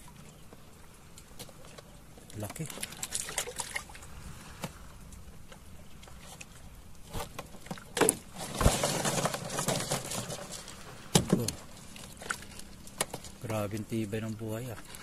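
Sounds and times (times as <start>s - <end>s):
water splashing in boat: 0.0s - 15.0s.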